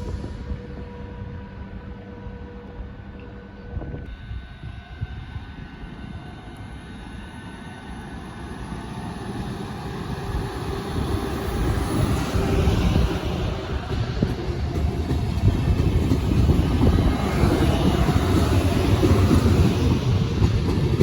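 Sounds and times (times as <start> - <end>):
train rumbling and hissing: 0.0 - 21.0.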